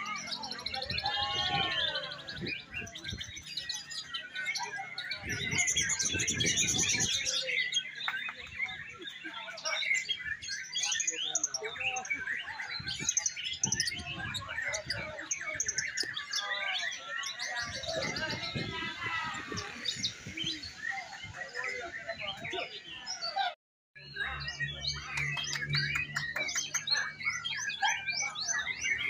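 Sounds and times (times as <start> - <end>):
songbirds chorus: 0.0 - 29.0.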